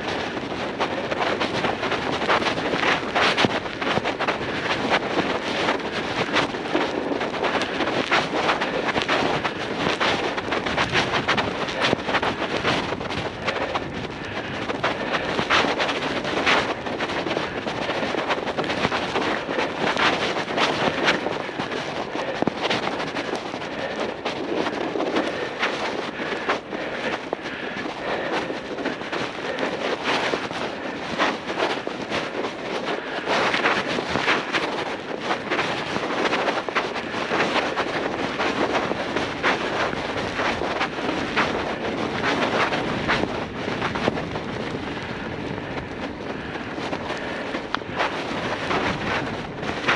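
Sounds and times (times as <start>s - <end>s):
bicycle tyres crunching snow: 0.0s - 49.9s
wind buffeting microphone: 0.0s - 49.9s.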